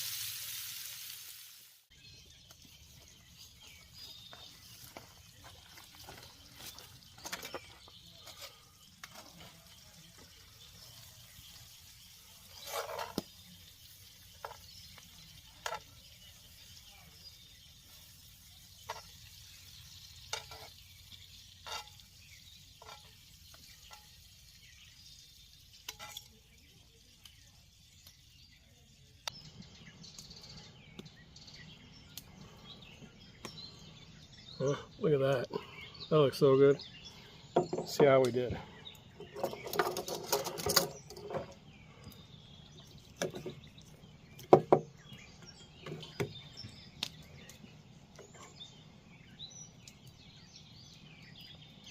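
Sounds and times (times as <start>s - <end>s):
steak sizzling with pops: 0.0s - 51.9s.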